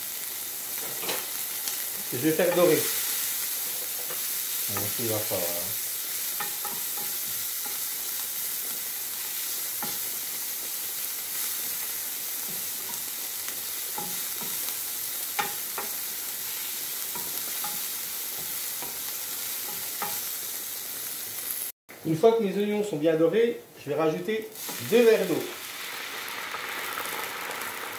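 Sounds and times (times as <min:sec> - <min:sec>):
onions sizzling in oil: 0:00.0 - 0:21.8, 0:24.5 - 0:27.9.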